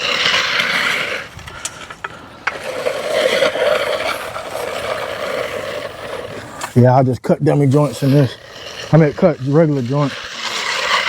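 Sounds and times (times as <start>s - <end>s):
float scraping across fresh concrete: 0.0s - 11.0s.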